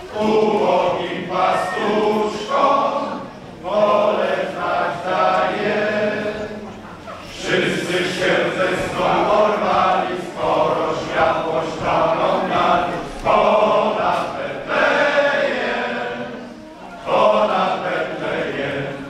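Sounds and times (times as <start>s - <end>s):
men's choir singing carol: 0.0s - 19.0s.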